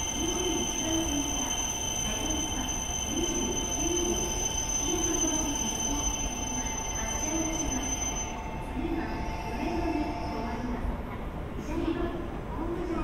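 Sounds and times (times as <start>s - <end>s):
train electrical whine: 0.0s - 11.1s.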